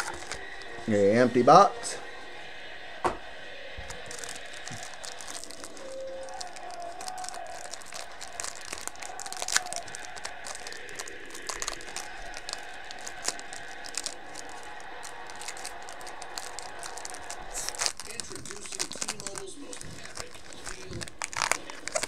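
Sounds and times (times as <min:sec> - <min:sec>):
plastic wrapping crinkling: 0:00.0 - 0:02.6, 0:03.5 - 0:22.0.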